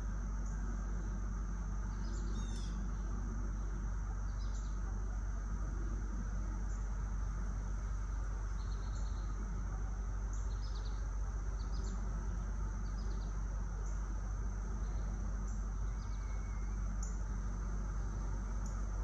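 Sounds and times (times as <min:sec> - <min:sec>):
cicadas droning: 0:00.0 - 0:19.0
wind in trees: 0:00.0 - 0:19.0.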